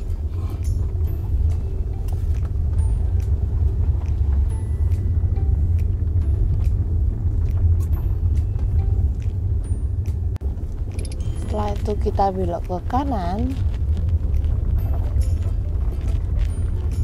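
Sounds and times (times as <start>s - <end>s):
car engine and tyres rumble: 0.0s - 17.0s.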